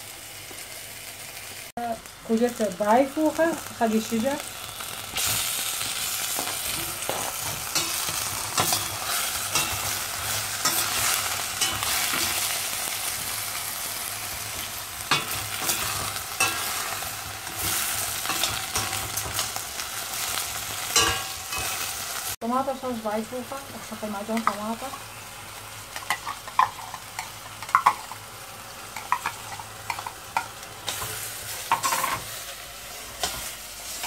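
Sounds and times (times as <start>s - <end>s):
food sizzling in a pot: 0.0s - 34.0s.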